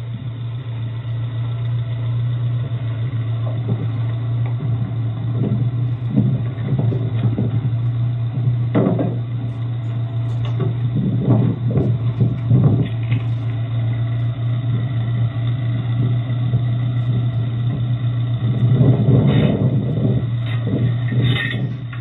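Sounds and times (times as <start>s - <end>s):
engine running with low hum: 0.0s - 22.0s
rough clunks and rumbles: 0.0s - 22.0s.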